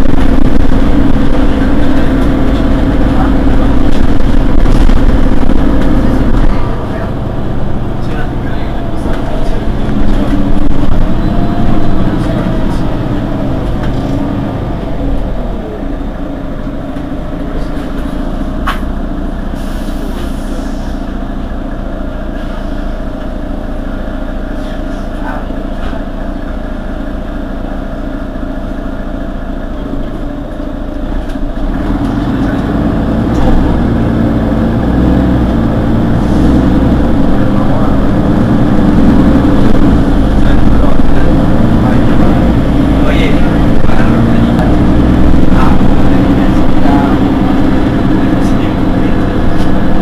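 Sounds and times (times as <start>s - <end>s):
bus diesel engine idling: 0.0s - 50.0s.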